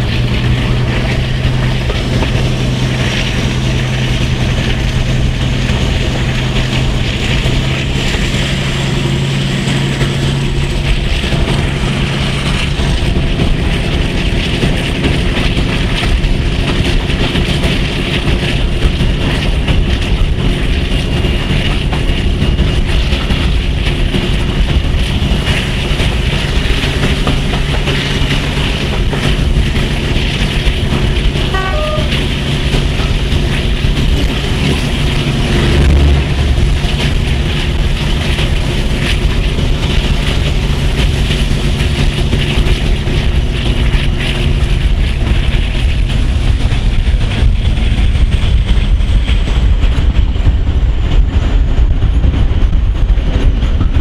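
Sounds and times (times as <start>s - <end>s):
locomotive diesel engines running: 0.0s - 54.0s
train wheel and rail noise: 0.0s - 54.0s.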